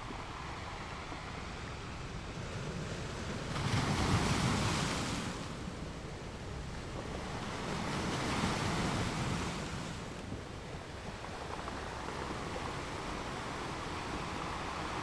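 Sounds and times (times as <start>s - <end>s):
ocean waves washing onto shore: 0.0s - 15.0s.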